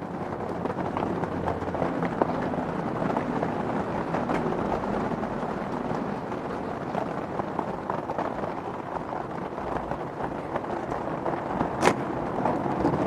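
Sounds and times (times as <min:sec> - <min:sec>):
hands tapping and scraping soil: 0:00.0 - 0:13.0.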